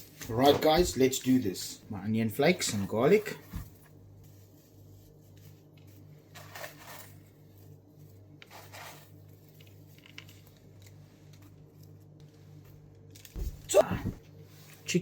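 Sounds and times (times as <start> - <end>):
soft kitchen scrapes and rustles: 0.0 - 15.0.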